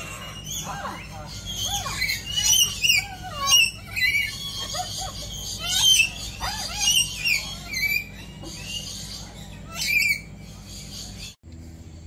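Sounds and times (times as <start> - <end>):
cockatoos squawking: 0.0 - 11.4.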